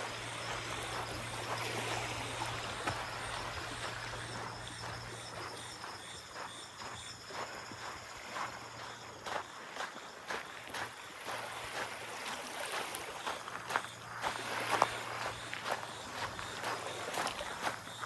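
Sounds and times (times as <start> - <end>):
small waves lapping on shore: 0.0 - 18.0.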